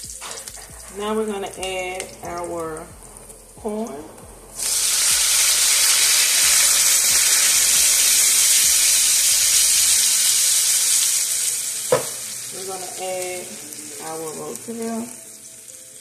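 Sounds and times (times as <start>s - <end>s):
corn sizzling in frying pan: 0.0s - 3.6s, 4.6s - 16.0s.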